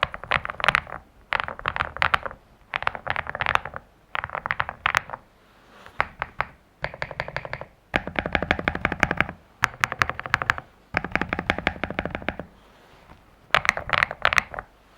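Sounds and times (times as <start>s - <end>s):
mechanical keyboard typing: 0.0s - 5.2s, 6.0s - 14.7s.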